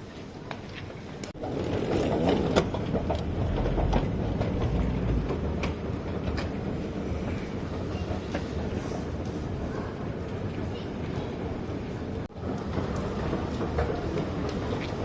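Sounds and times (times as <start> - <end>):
train rumbling: 1.0 - 15.0.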